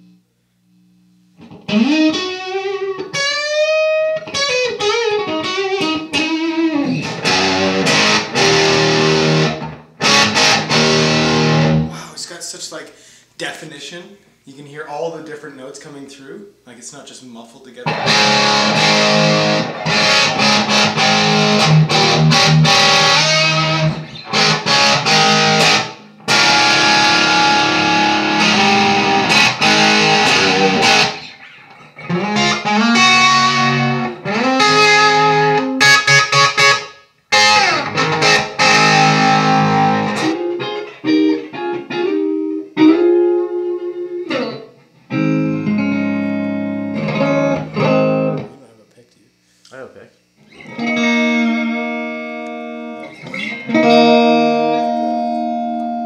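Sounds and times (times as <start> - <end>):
electric guitar playing: 0.8 - 12.0, 17.8 - 48.6, 50.4 - 56.0.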